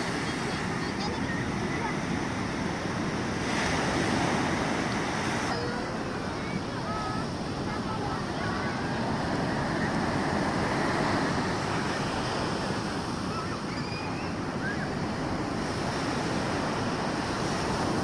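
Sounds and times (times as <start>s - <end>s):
ocean surf on a beach: 0.0s - 18.0s.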